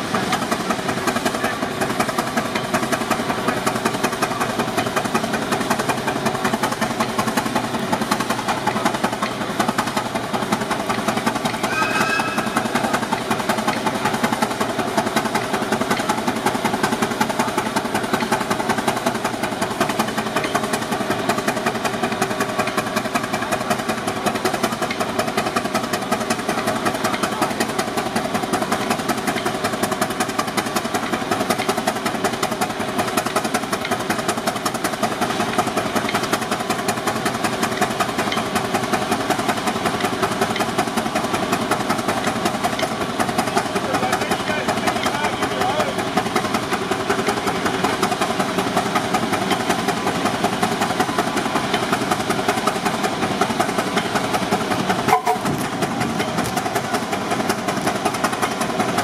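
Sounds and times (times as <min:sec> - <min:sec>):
engine mechanical clatter: 0:00.0 - 0:59.0
steam engine exhaust beats: 0:00.0 - 0:59.0.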